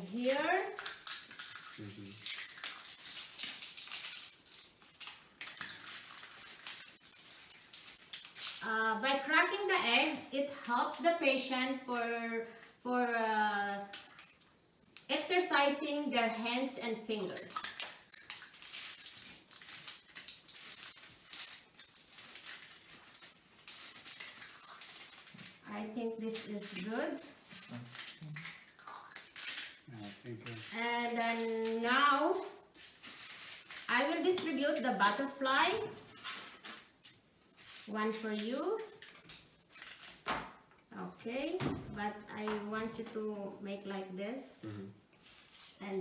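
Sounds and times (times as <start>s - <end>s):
eggshells crackling: 0.0s - 11.1s, 13.5s - 40.3s, 45.2s - 45.9s.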